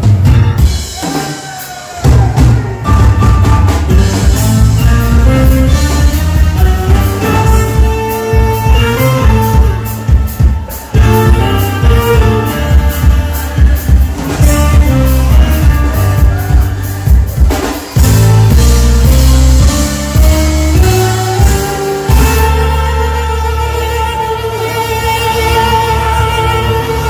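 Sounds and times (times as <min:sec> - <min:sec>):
drum kit: 0:00.0 - 0:27.0
jazz band playing: 0:00.0 - 0:27.0
saxophone melody: 0:00.0 - 0:27.0.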